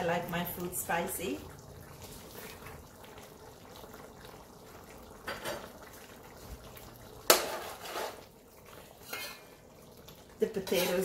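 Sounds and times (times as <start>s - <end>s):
curry simmering: 0.0s - 11.0s.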